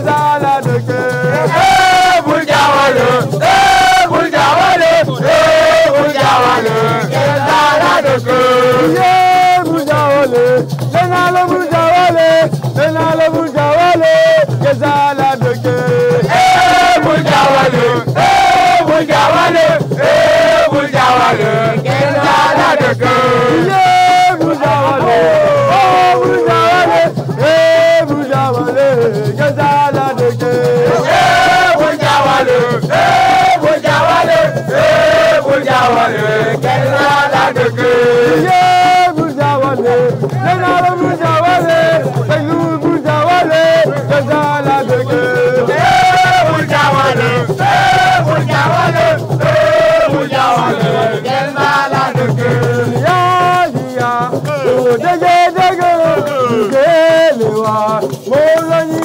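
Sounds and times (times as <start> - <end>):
group singing: 0.0 - 59.0
music: 0.0 - 59.0
shaken rattle: 0.0 - 59.0.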